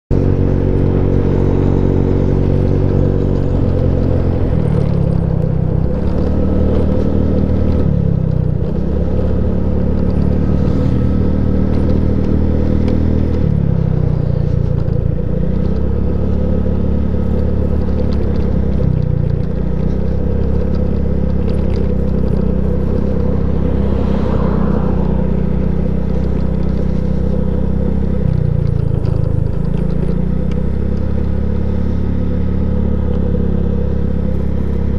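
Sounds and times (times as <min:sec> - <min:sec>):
scooter engine running: 0:00.1 - 0:34.9.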